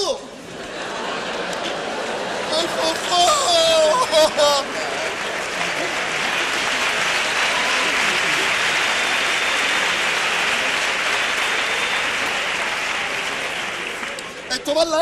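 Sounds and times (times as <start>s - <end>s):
audience applauding: 0.9s - 15.0s.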